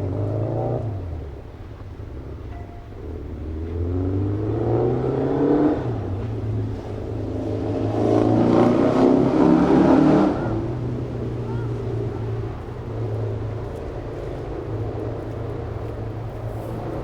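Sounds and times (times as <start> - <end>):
car accelerating: 0.0 - 17.0
car engines running: 0.0 - 17.0
vehicle passing close: 0.0 - 17.0.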